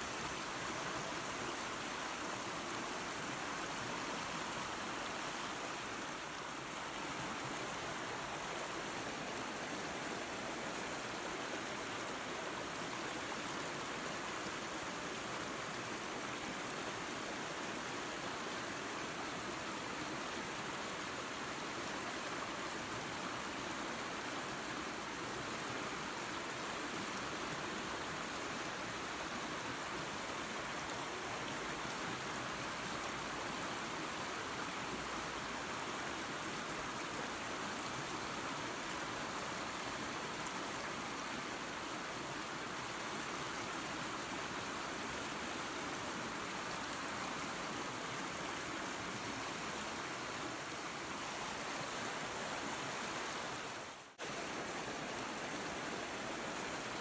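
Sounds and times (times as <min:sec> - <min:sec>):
creek and small waterfall running: 0:00.0 - 0:57.0.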